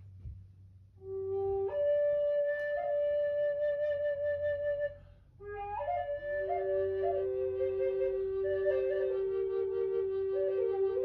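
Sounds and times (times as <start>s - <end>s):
flute playing slow melody: 1.0s - 11.0s.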